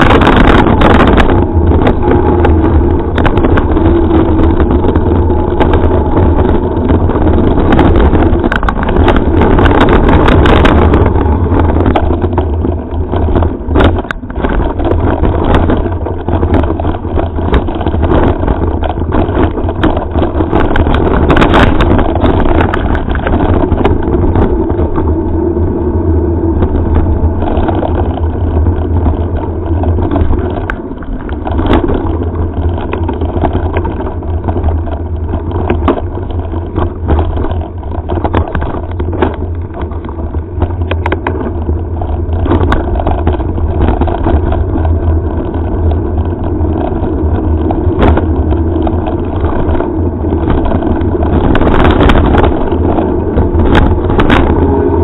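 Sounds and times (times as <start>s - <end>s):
bike rattling over gravel: 0.0s - 55.0s
wind buffeting microphone: 0.0s - 55.0s.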